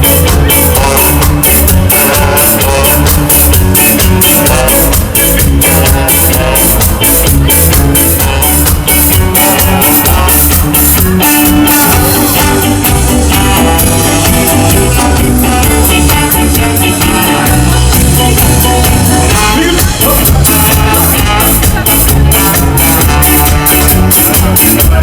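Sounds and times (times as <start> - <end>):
bass line: 0.0 - 25.0
ska band playing live: 0.0 - 25.0
steady drum beat: 0.0 - 25.0.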